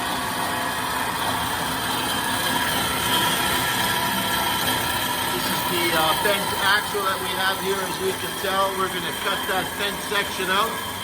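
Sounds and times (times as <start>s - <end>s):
machine running with held tones: 0.0s - 11.0s.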